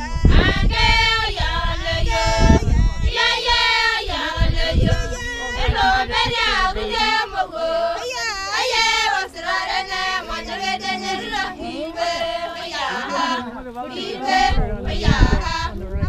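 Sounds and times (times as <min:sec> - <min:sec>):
women singing in high voices: 0:00.0 - 0:15.8.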